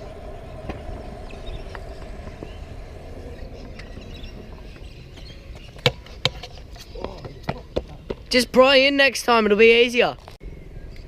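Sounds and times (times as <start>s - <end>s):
scooter wheels rolling on pavement: 0.0s - 10.4s.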